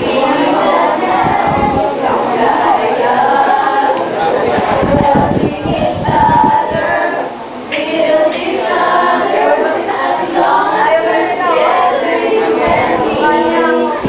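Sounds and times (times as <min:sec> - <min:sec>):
group of students singing: 0:00.0 - 0:14.0.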